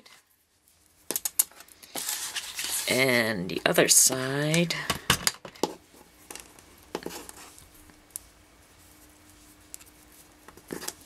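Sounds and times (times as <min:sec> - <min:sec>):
threads rustling against paper: 0:00.0 - 0:04.6, 0:05.8 - 0:11.0
faint steady hum: 0:00.0 - 0:11.0.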